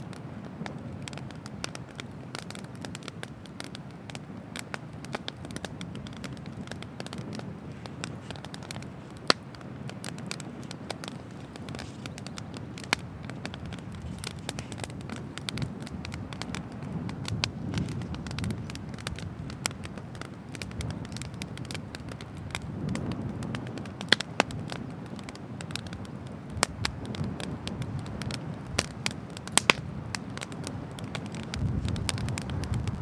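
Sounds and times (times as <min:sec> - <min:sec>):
bonfire crackling: 0:00.0 - 0:33.0
firewood popping: 0:00.0 - 0:33.0.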